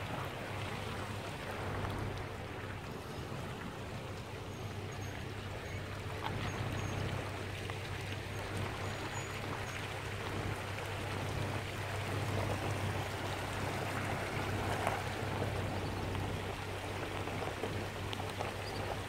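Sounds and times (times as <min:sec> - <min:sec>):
river water running over rocks: 0:00.0 - 0:19.0.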